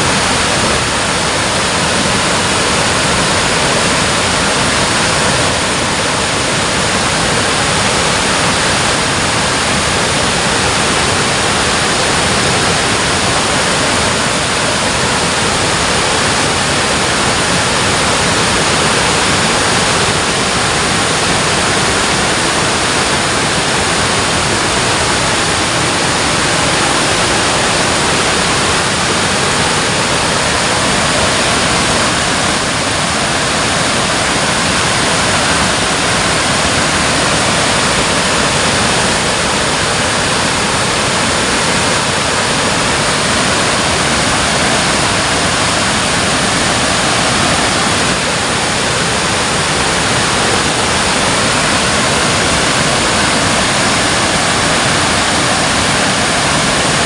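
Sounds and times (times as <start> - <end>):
dam water rushing and churning: 0.0 - 57.0.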